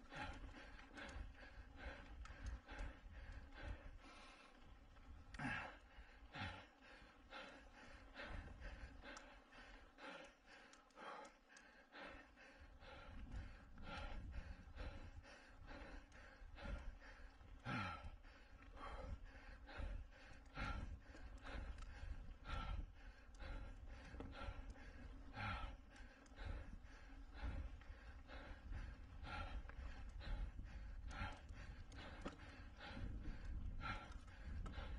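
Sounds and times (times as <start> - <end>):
hard rhythmic breathing: 0.0 - 34.9.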